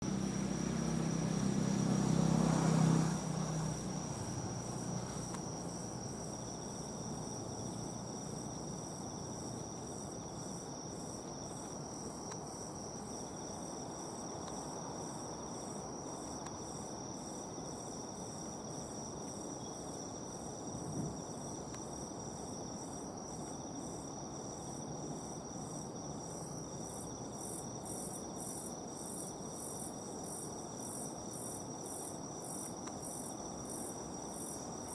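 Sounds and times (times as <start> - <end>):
crickets chirping: 0.0 - 34.9
pulsing insect chirp: 0.0 - 34.9.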